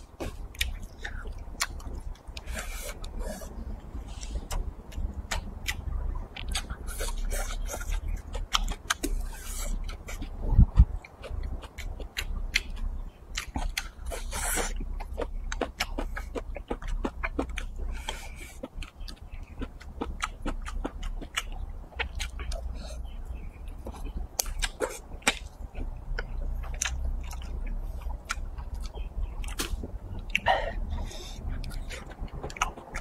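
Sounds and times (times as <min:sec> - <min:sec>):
chewing and mouth smacks: 0:00.0 - 0:33.0
low steady hum: 0:00.0 - 0:33.0.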